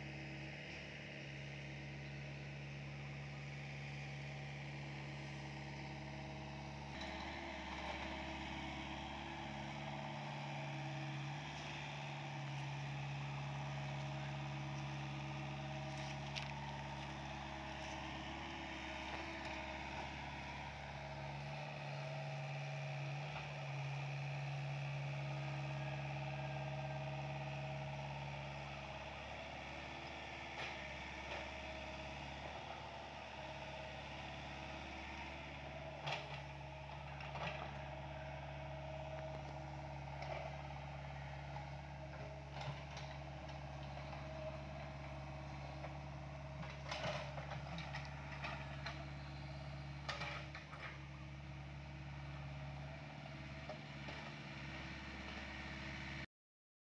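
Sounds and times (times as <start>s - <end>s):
excavator diesel engine running: 0.0s - 56.2s.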